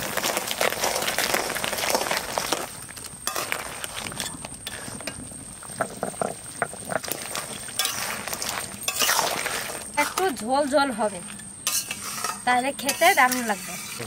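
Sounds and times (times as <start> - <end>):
curry bubbling in a wok: 0.0 - 14.0
spatula stirring: 0.0 - 14.0.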